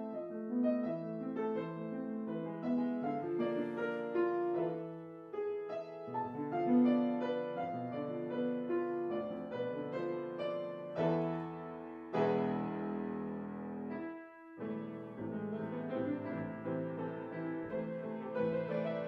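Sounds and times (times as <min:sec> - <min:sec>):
grand piano playing: 0:00.0 - 0:19.0.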